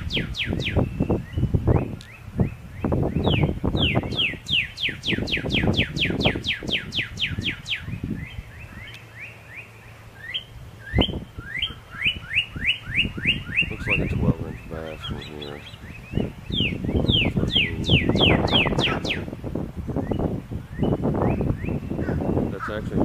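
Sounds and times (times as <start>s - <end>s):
wind rumble on microphone: 0.0s - 9.2s, 9.9s - 23.0s
quick downward-sliding bird chirps: 0.0s - 19.3s.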